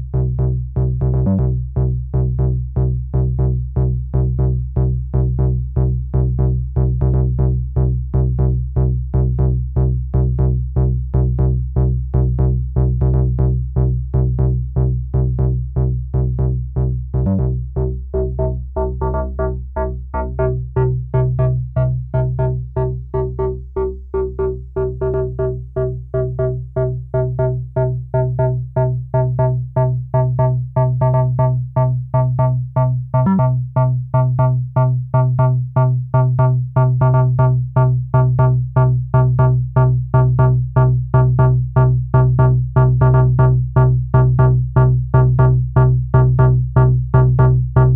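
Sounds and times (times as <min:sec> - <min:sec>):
synth bass sequence: 0:00.0 - 0:47.9.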